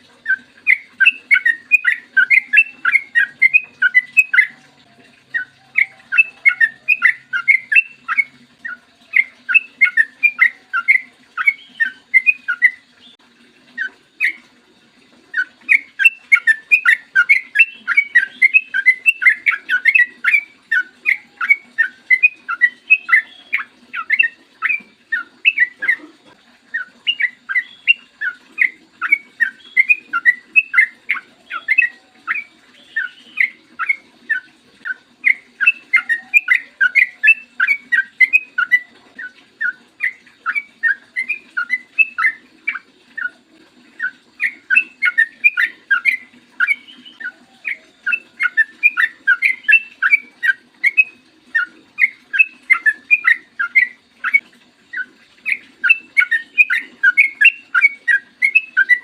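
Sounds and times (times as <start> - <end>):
bulbul whistling song: 0.0 - 14.5, 15.3 - 59.0.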